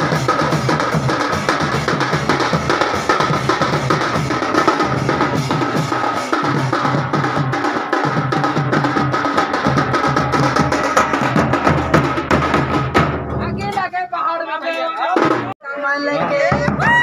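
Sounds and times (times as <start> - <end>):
fast folk drumming: 0.0 - 14.1, 15.0 - 15.6, 16.2 - 17.0.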